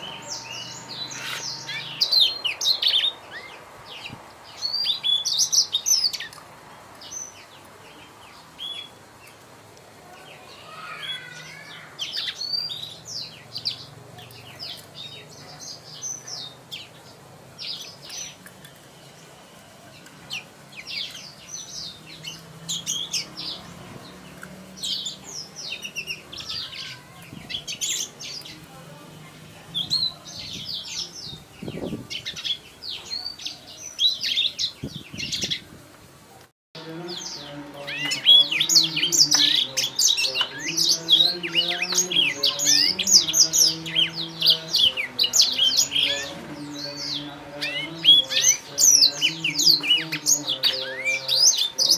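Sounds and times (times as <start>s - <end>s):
canary singing: 0.0s - 35.8s, 36.8s - 51.9s.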